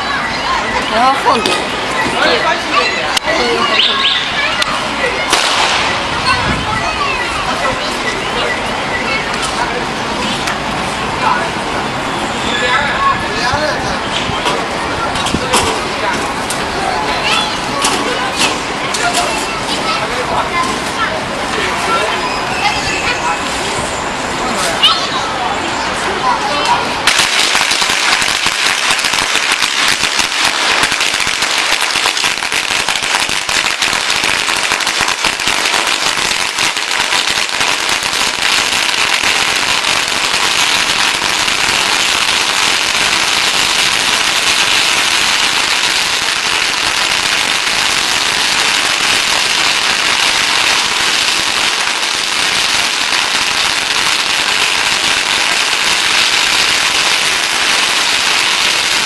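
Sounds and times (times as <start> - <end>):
firecrackers crackling: 0.0 - 23.8, 24.4 - 59.0.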